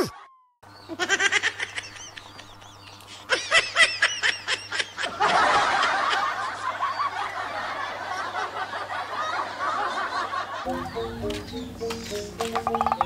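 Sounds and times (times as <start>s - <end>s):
people laughing: 0.9s - 11.4s.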